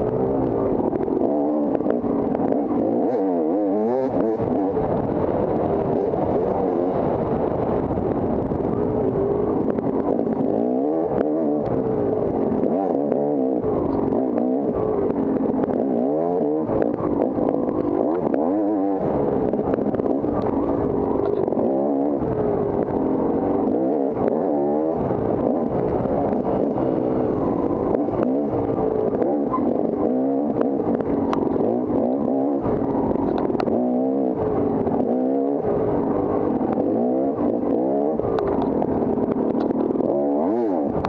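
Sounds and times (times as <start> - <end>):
dirt bike engine revving: 0.0 - 8.4, 9.2 - 41.0.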